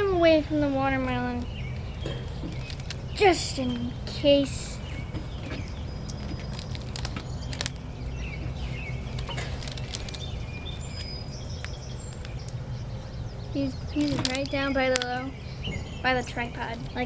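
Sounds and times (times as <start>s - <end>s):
birds chirping: 0.0s - 17.0s
low rumble: 0.0s - 17.0s
handling clicks and taps: 1.0s - 12.7s, 13.7s - 15.8s.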